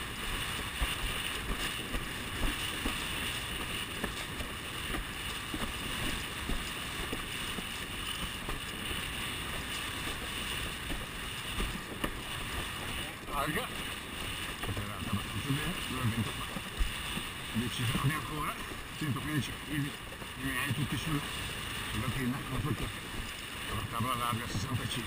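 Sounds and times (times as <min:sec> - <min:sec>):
board hull slapping waves: 0:00.0 - 0:25.0
wind rushing over microphone: 0:00.0 - 0:25.0.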